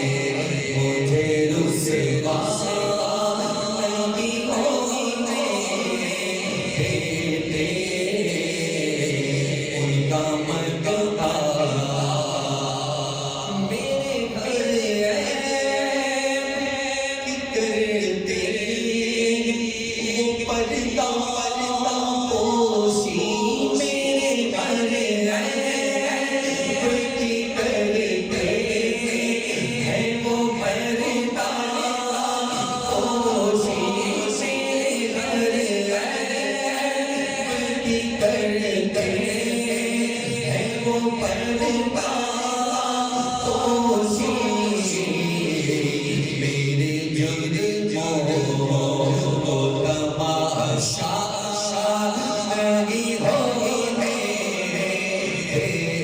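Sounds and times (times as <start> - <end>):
person chanting over loudspeaker: 0.0 - 56.0.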